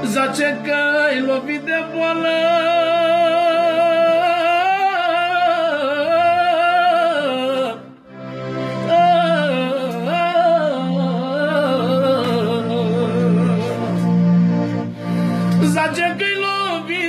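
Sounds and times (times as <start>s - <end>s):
man singing wordless lament: 0.0s - 7.9s, 8.9s - 14.2s, 15.6s - 17.0s
accordion bass notes: 0.0s - 17.0s.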